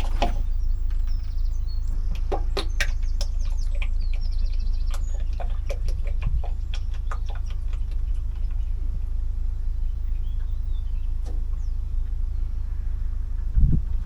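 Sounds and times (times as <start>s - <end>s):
oil glugging from a drum: 0.0s - 11.8s
low rumble: 0.0s - 14.0s
small birds chirping: 0.0s - 14.0s.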